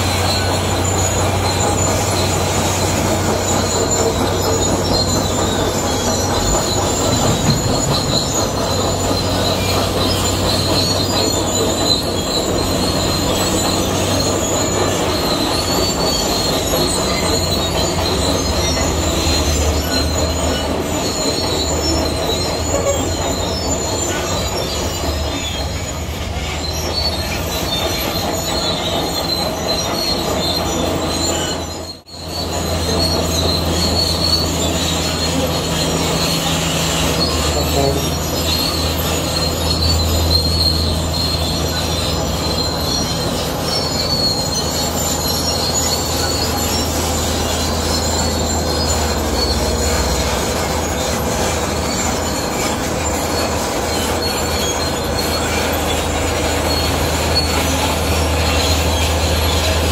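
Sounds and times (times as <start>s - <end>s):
bulldozer tracks squealing: 0.0s - 59.9s
diesel engine drone: 0.0s - 59.9s.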